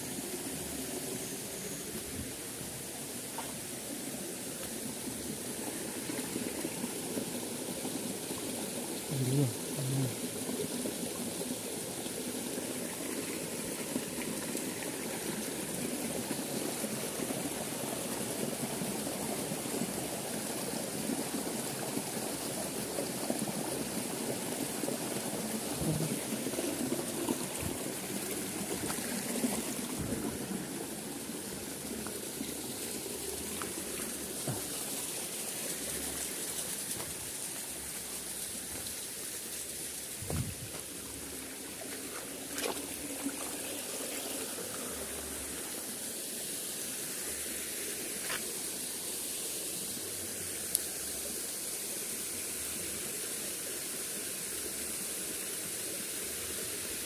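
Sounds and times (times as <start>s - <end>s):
small stream flowing: 0.0s - 57.0s.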